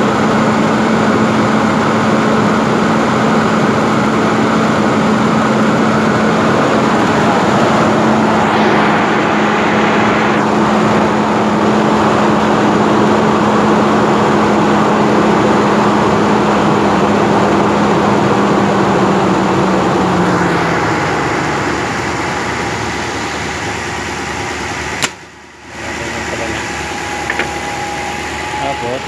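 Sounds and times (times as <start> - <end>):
air conditioning hum: 0.0 - 29.0
car engine running: 0.0 - 29.0.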